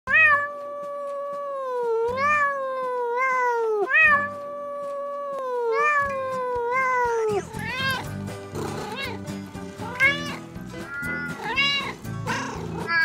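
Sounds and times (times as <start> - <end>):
cat meowing: 0.1 - 8.1, 8.7 - 9.2, 9.8 - 13.0.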